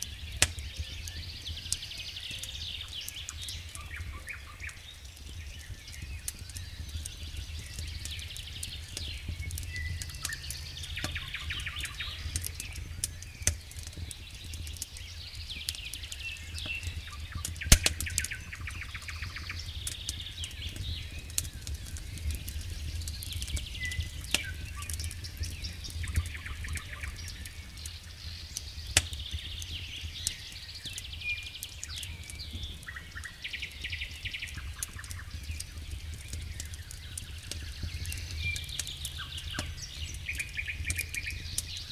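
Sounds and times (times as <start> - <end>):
birds singing: 0.0 - 41.9
campfire crackling and popping: 0.0 - 41.9.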